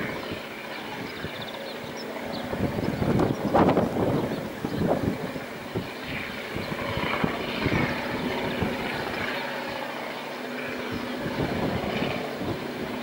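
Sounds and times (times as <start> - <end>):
locomotive engine drone: 0.0 - 13.0
wind buffeting microphone: 0.0 - 13.0.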